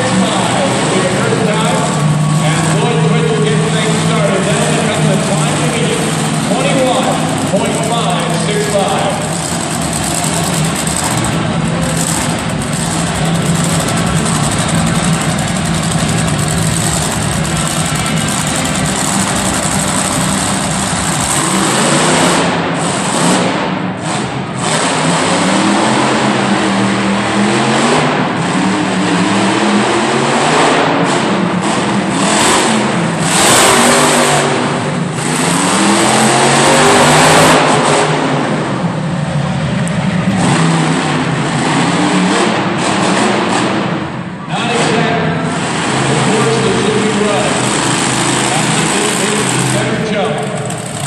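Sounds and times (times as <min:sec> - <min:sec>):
monster truck engine revving: 0:00.0 - 0:51.0.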